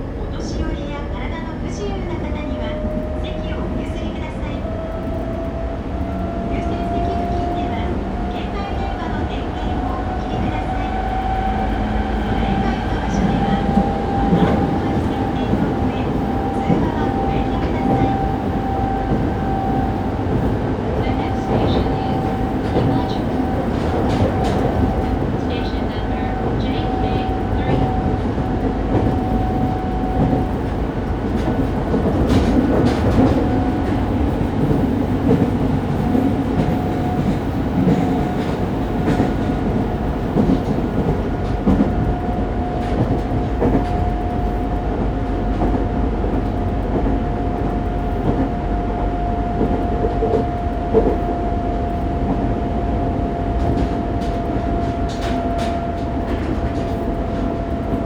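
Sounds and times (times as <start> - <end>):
train wheels rumbling on rail: 0.0 - 58.0
rail-joint clicks: 2.1 - 58.0.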